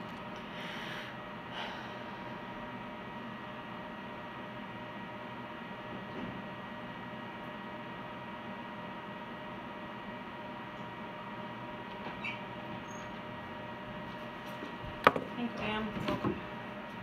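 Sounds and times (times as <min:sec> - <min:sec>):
room tone hum and hiss: 0:00.0 - 0:17.0.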